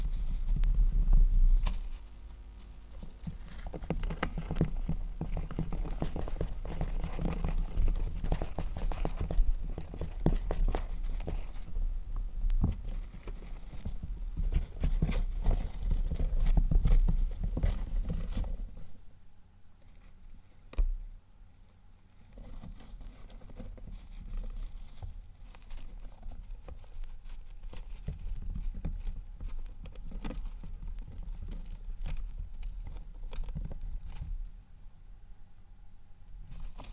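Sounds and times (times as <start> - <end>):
crinkling: 0.0 - 19.0, 19.8 - 36.9
hamster rustling and scratching: 0.0 - 19.0, 19.8 - 35.0, 36.3 - 36.9.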